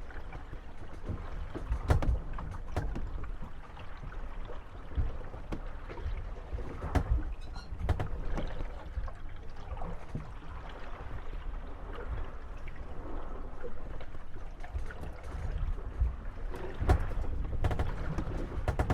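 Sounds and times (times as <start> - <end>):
wooden boats creaking and knocking: 0.0 - 18.9.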